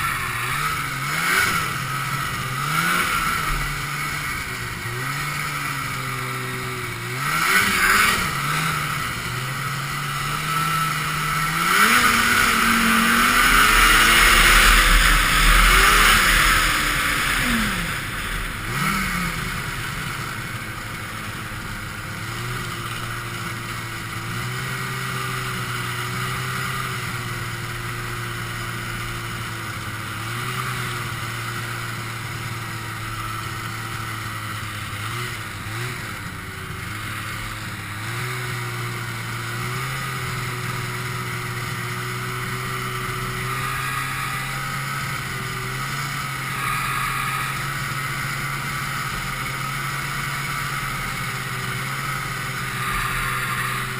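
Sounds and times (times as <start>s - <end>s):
snowmobile engine running: 0.0s - 53.9s.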